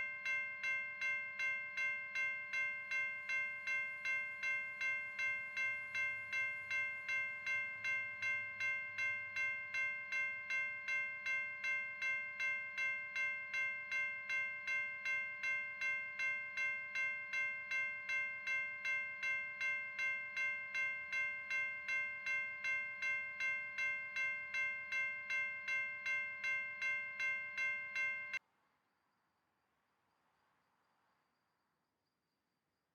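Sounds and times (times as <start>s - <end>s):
railroad crossing bell ringing: 0.0s - 28.4s.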